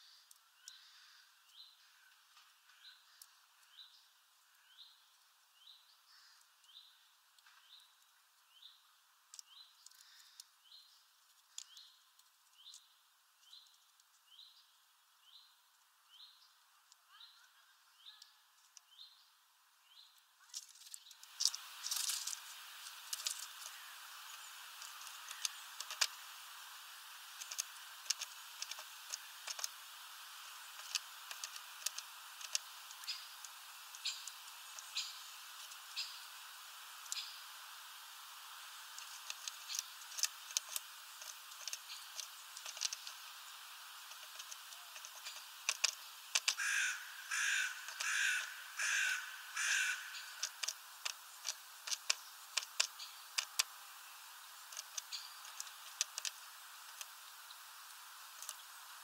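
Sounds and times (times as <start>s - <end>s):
steady hiss with sharp ticks: 0.0s - 59.0s.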